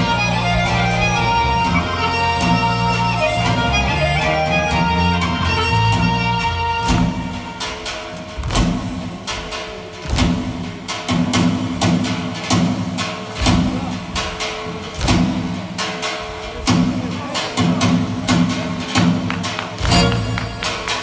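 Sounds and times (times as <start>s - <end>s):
folk dance music with plucked strings: 0.0s - 21.0s.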